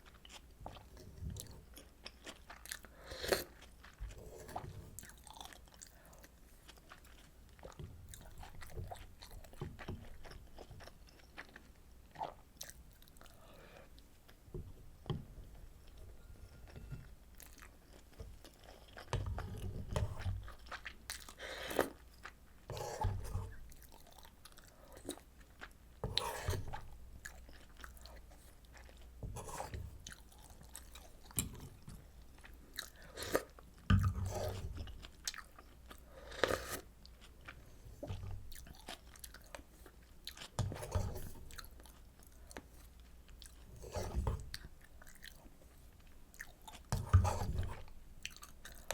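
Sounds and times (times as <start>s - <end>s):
chewing and crunching food: 0.0s - 48.9s.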